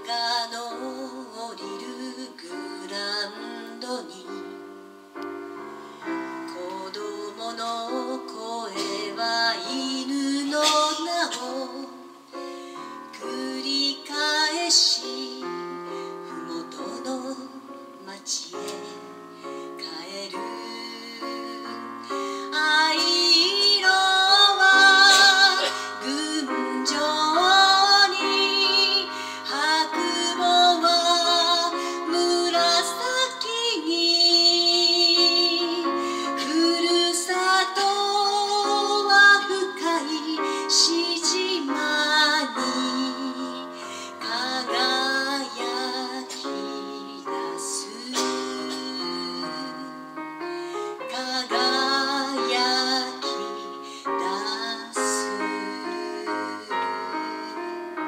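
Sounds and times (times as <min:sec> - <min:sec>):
piano accompaniment: 0:00.0 - 0:58.0
woman singing slow song: 0:00.0 - 0:58.0.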